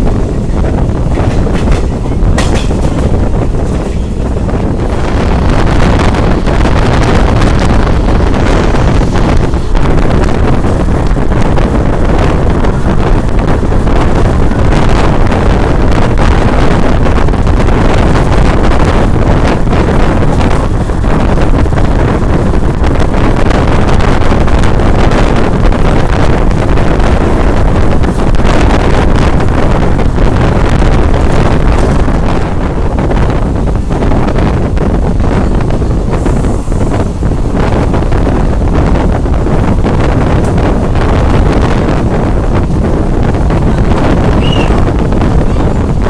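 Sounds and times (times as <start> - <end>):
train rumbling: 0.0 - 46.0
wind buffeting microphone: 0.0 - 46.0.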